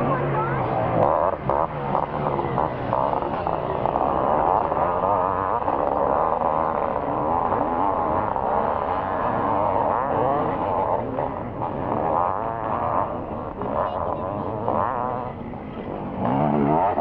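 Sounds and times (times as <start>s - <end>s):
motocross bikes revving past: 0.0s - 17.0s.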